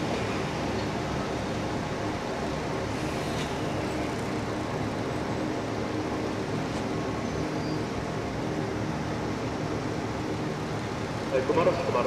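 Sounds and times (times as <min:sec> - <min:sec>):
diesel railcar engine idling: 0:00.0 - 0:12.0.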